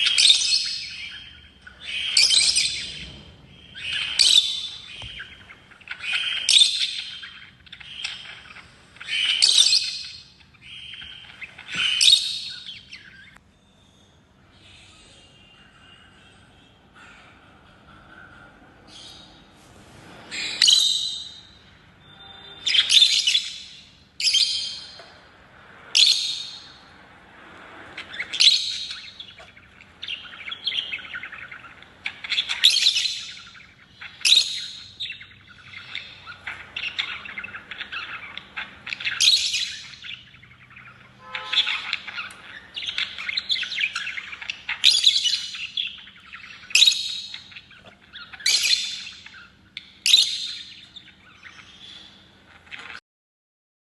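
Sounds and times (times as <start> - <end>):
lovebirds chirping: 0.0 - 53.0.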